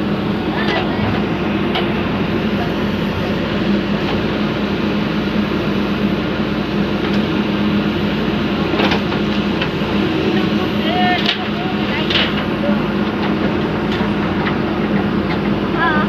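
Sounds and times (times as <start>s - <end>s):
digger diesel engine running: 0.0s - 16.0s.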